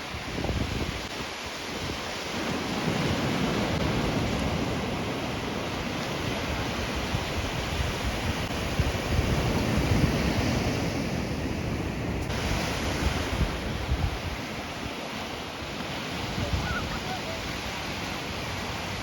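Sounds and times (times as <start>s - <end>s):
ocean surf washing in: 0.0s - 19.0s
wind buffeting microphone: 0.0s - 19.0s.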